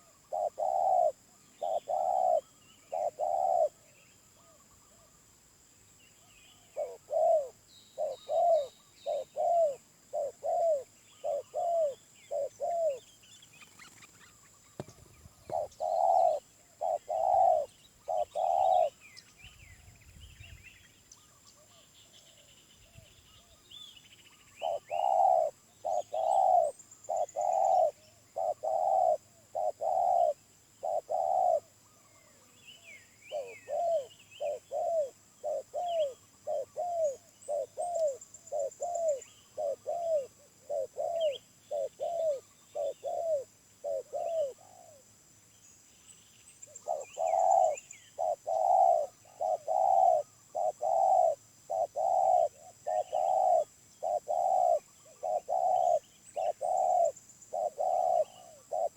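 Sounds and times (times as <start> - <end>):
dove cooing: 0.0 - 5.1, 6.5 - 19.0, 24.6 - 32.5, 33.3 - 45.1, 46.7 - 58.9
small birds chirping faintly: 0.0 - 58.9.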